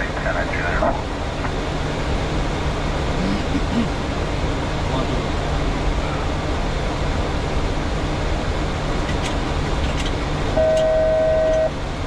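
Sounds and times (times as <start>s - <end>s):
aircraft cabin airflow and engine hum: 0.0s - 12.0s.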